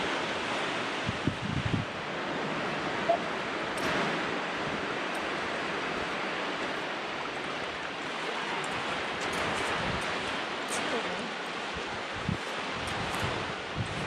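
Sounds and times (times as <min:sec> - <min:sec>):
surf washing over sand: 0:00.0 - 0:14.0.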